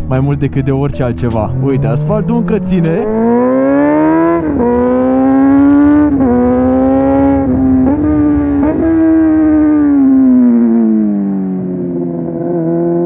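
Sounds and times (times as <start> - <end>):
motorcycle engine accelerating: 1.2 - 13.0.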